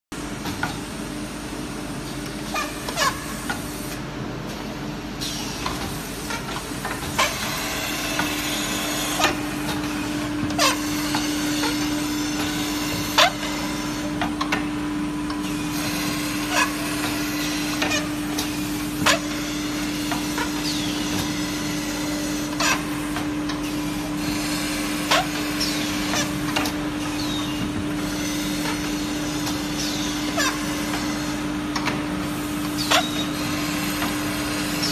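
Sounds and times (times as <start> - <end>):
machine motor hum with grinding: 3.4 - 34.9.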